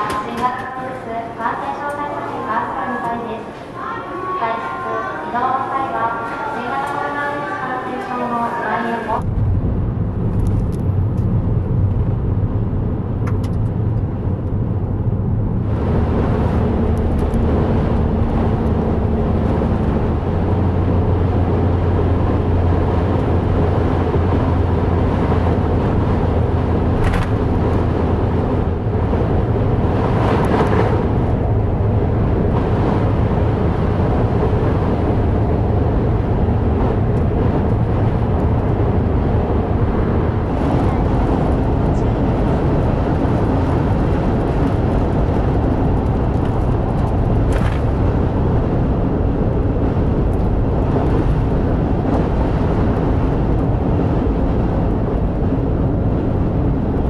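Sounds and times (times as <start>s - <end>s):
car road and engine noise: 5.4s - 57.0s.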